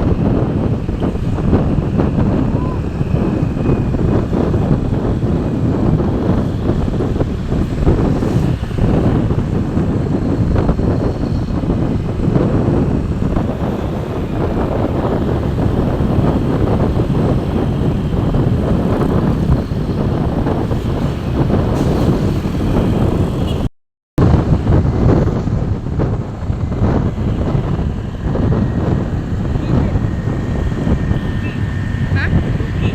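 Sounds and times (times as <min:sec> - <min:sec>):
vehicle and road noise: 0:00.0 - 0:32.9
wind buffeting microphone: 0:00.0 - 0:32.9.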